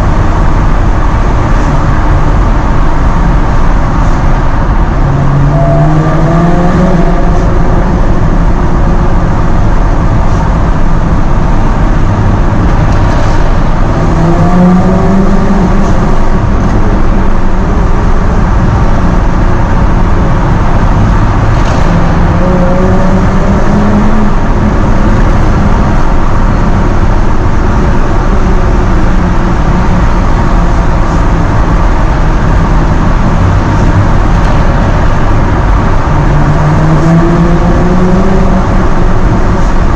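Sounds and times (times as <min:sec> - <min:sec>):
car engine accelerating: 0:00.0 - 0:39.9
road noise: 0:00.0 - 0:39.9.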